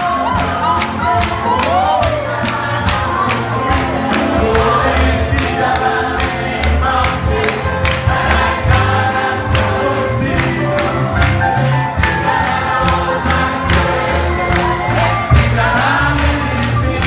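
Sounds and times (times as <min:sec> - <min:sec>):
choir singing gospel music: 0:00.0 - 0:17.0.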